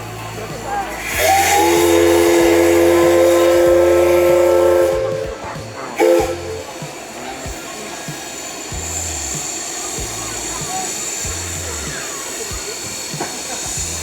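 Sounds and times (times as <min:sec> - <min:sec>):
steam hissing: 0:00.0 - 0:14.0
steam locomotive chime whistle: 0:00.1 - 0:13.9.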